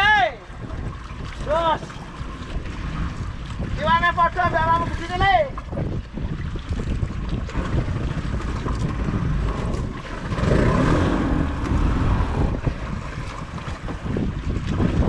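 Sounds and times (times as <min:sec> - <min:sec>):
rush of water: 0:00.0 - 0:15.0
water sloshing against boat hull: 0:00.0 - 0:15.0
wind buffeting microphone: 0:00.0 - 0:15.0.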